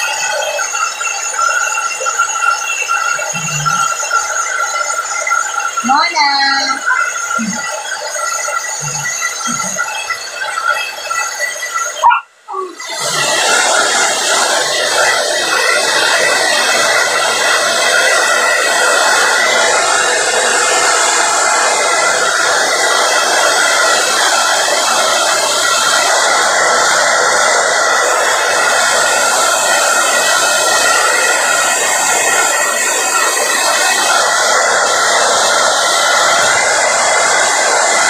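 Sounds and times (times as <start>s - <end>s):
hair dryer blowing: 0.0s - 38.0s.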